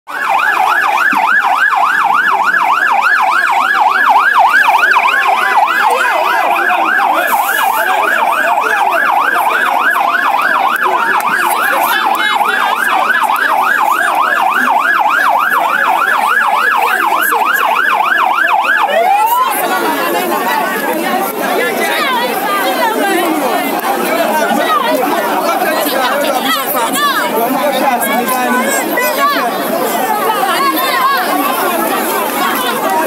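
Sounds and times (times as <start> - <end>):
fire engine siren yelping: 0.1 - 33.0.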